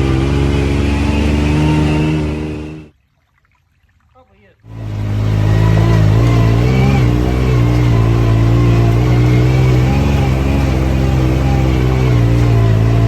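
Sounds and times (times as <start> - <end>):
car engine running: 0.0 - 2.9, 4.7 - 13.0.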